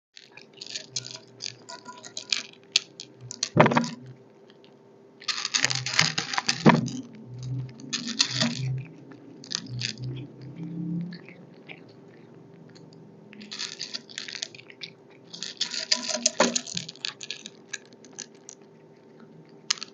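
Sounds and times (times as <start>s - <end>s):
cat food kibble rattling: 0.2s - 19.9s.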